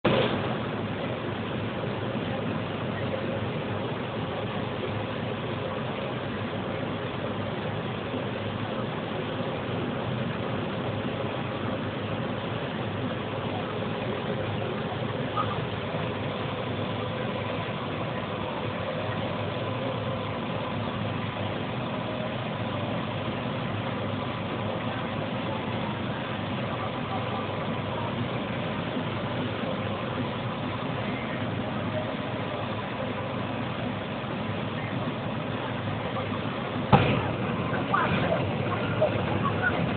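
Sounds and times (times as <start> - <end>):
threshing machine running: 6.3 - 39.9.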